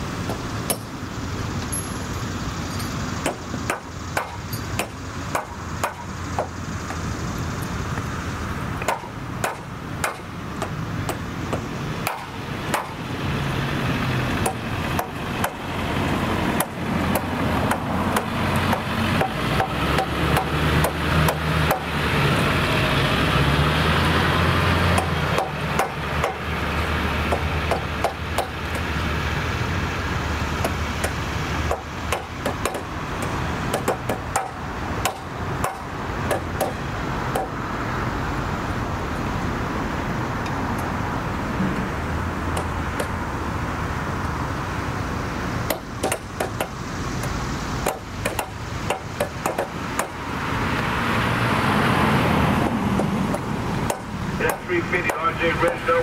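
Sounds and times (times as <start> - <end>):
vehicle passing: 0.0 - 56.0.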